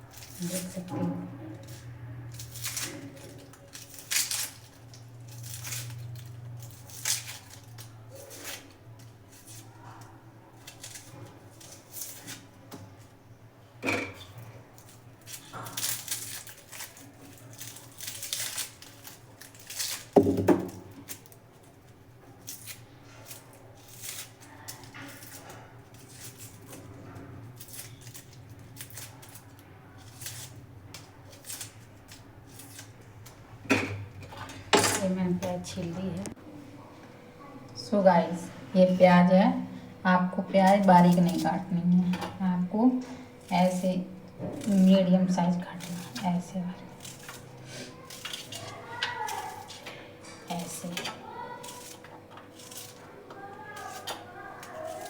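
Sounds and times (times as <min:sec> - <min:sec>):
dry onion skin rustling: 0:00.0 - 0:55.0.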